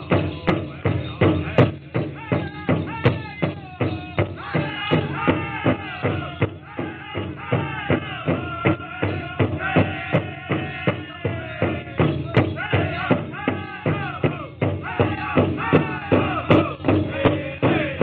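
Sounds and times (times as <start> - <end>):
large drum beating: 0.0 - 18.0
singers chanting: 0.0 - 18.0.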